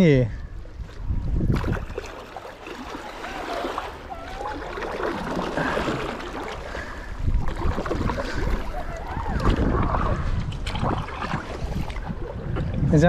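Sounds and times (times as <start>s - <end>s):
water gurgling along hull: 0.0s - 13.0s
paddle dipping and dripping: 0.5s - 13.0s.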